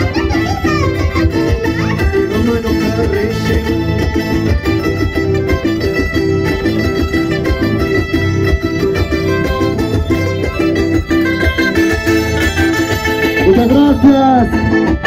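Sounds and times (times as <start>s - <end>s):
folk dance music on plucked strings: 0.0s - 15.0s.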